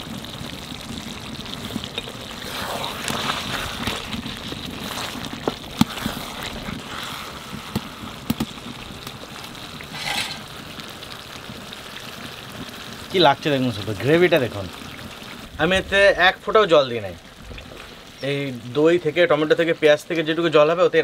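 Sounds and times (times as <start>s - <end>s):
gravy simmering hiss: 0.0s - 21.0s.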